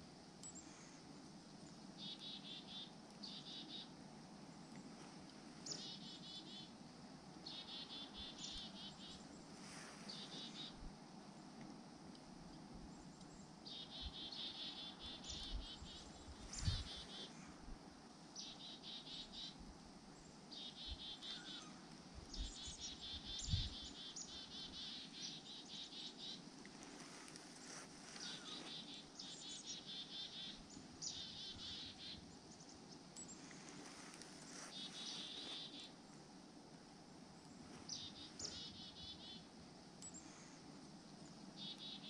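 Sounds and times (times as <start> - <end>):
songbirds twittering: 1.6 - 3.9, 5.6 - 6.7, 7.4 - 11.5, 12.9 - 17.6, 18.4 - 36.2, 37.4 - 42.0.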